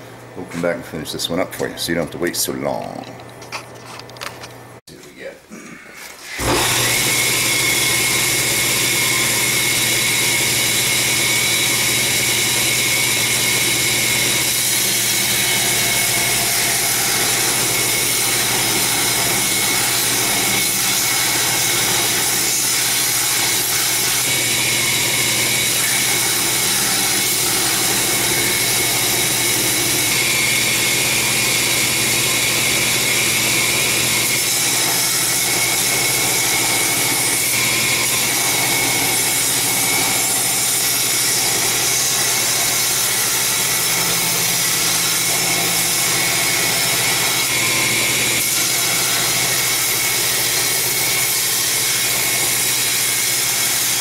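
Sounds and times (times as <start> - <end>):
belt grinder grinding steel: 6.2 - 54.0.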